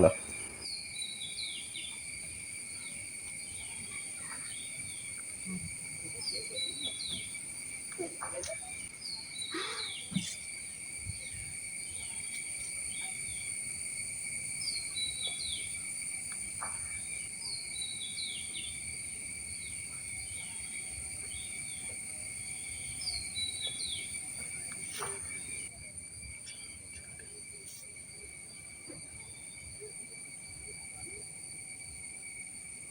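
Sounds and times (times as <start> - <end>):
high-pitched insect drone: 0.0 - 32.9.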